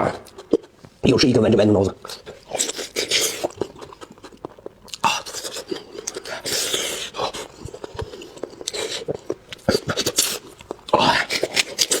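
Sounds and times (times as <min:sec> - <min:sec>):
chewing and crunching: 0:00.0 - 0:12.0.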